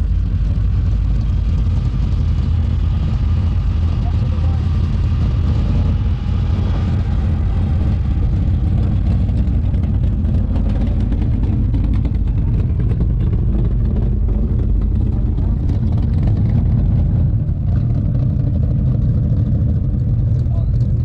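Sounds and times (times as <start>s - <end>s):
car driving slowly past: 0.0s - 21.0s.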